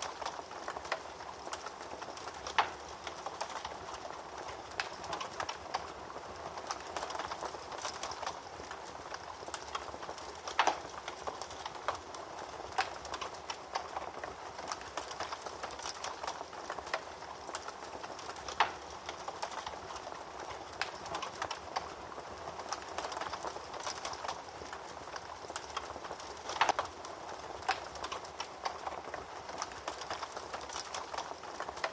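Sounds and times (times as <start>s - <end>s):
fire popping: 0.0s - 31.9s
wood fire crackling: 0.0s - 31.9s.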